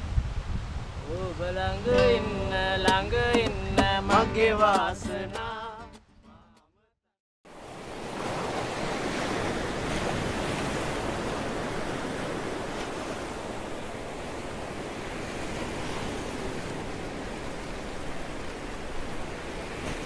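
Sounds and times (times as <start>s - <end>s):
ocean surf rushing: 0.0s - 5.8s, 7.5s - 20.0s
wind: 0.0s - 6.2s, 7.4s - 20.0s.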